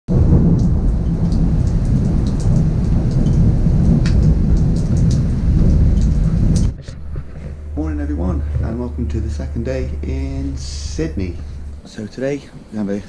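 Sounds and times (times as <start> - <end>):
heavy rain pouring on roof: 0.1 - 13.0
raindrops splatting: 0.1 - 13.0.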